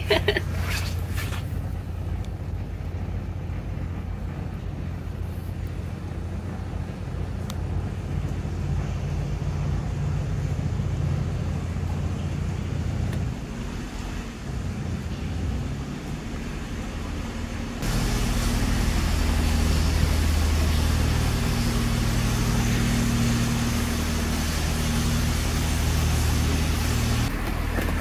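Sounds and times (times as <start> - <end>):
diesel engine rumbling in tunnel: 0.0 - 28.0.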